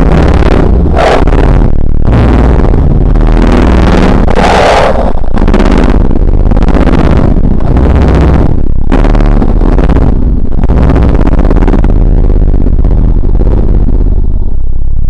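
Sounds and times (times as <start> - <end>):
deep drone: 0.0 - 15.0
distorted low rumble: 0.0 - 15.0.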